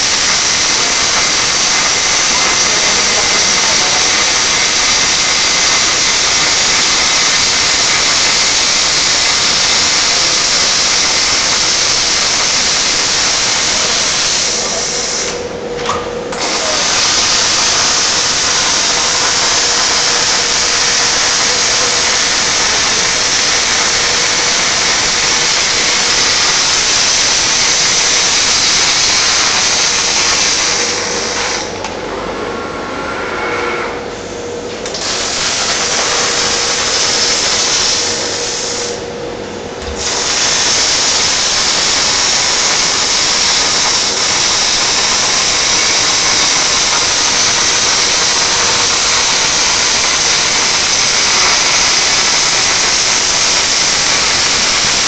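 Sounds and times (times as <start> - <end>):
welding arc crackling hiss: 0.0 - 15.4, 16.3 - 31.9, 34.8 - 39.1, 39.8 - 55.0.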